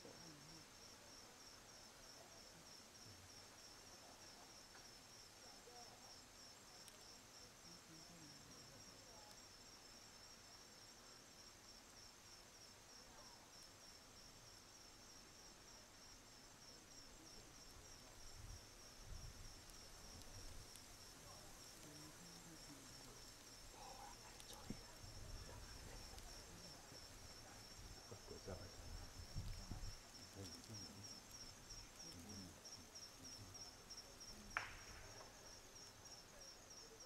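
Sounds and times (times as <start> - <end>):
insect chirping: 0.0 - 37.0
outdoor background hiss: 0.0 - 37.0.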